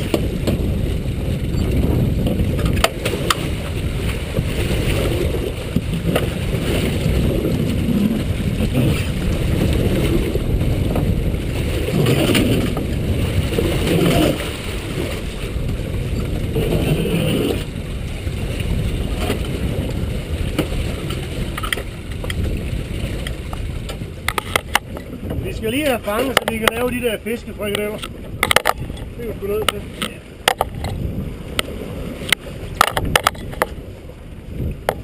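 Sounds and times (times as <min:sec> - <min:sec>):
water sloshing against boat hull: 0:00.0 - 0:35.0
wind rumbling on microphone: 0:00.0 - 0:35.0.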